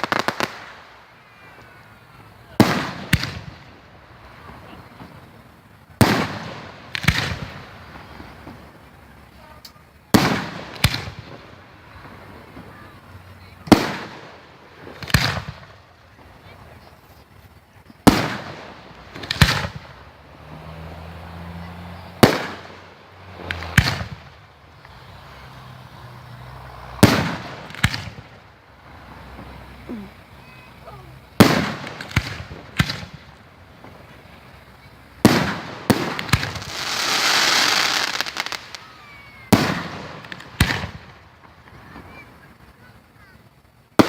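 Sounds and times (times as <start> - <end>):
firework hiss: 0.0 - 44.0
fireworks bangs: 0.0 - 44.0.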